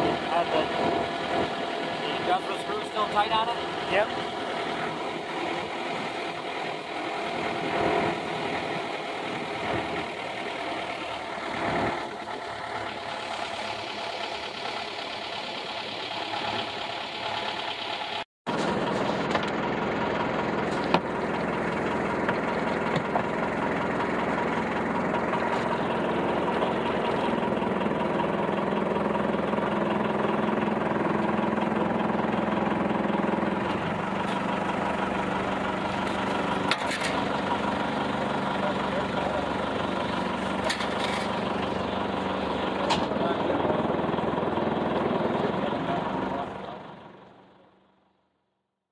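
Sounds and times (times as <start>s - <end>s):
boat engine running: 0.0s - 48.1s.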